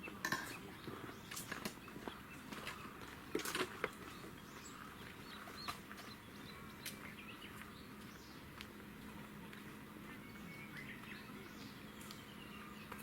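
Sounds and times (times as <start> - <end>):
low steady hum: 0.0 - 13.0
small birds chirping: 0.0 - 13.0.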